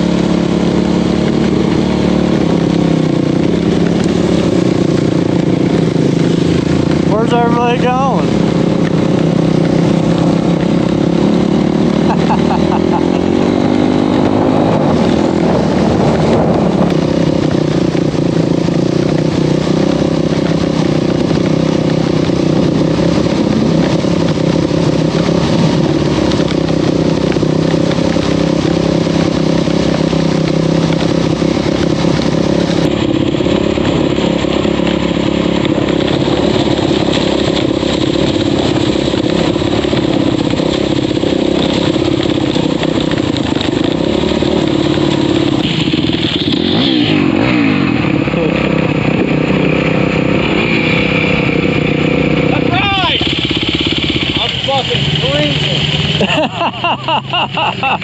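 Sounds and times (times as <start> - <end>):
vehicle engine running loudly: 0.0 - 58.0.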